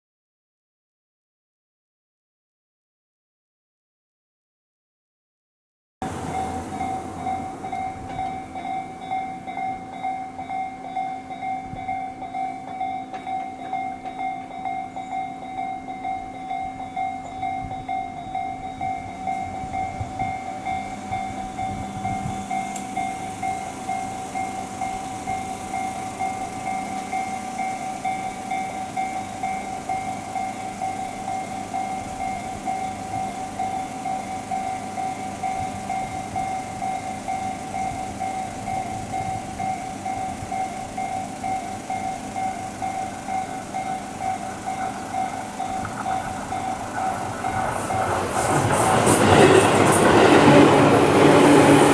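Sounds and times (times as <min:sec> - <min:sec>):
level crossing warning bell: 0:06.0 - 0:51.9
train passing: 0:06.0 - 0:51.9.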